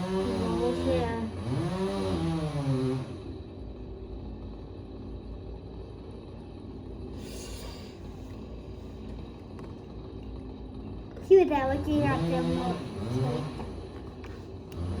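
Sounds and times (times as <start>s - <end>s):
distant engine rumble: 0.0s - 15.0s.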